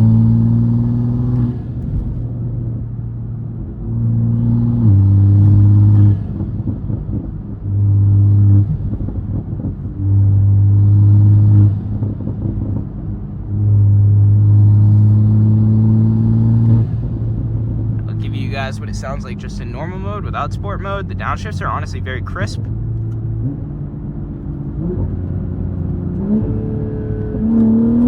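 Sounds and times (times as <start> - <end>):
car engine exhaust drone: 0.0 - 23.2.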